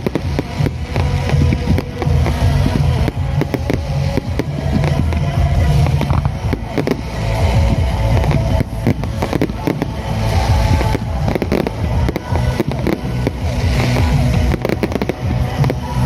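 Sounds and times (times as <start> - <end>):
fireworks bangs and crackles: 0.0 - 16.0
low rumble: 0.0 - 16.0
music playing: 0.0 - 16.0.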